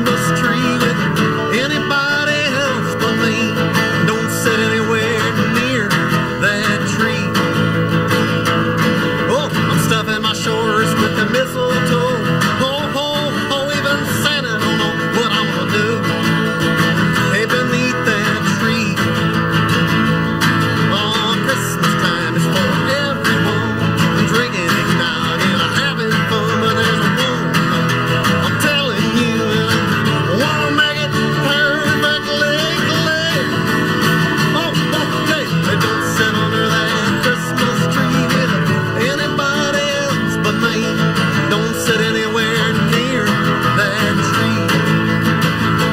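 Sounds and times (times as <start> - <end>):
band playing acoustic guitars: 0.0 - 45.9.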